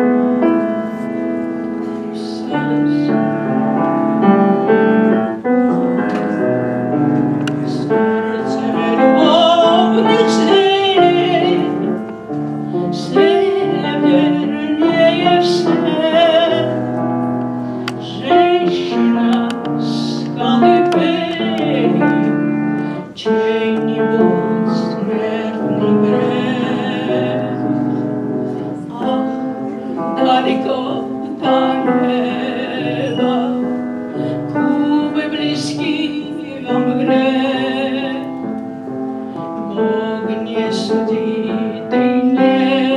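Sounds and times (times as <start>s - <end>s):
person singing with vibrato: 0.0s - 42.9s
piano accompaniment: 0.0s - 42.9s.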